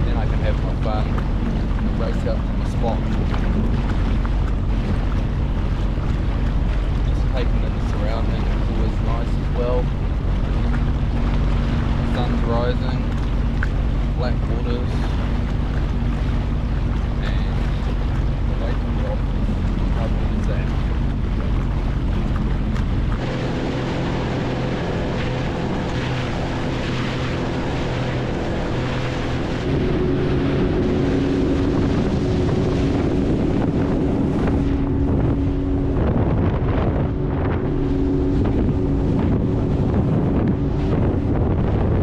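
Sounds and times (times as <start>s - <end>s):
jet ski engine running: 0.0s - 42.0s
water rushing along hull: 0.0s - 42.0s
wind buffeting microphone: 0.0s - 42.0s.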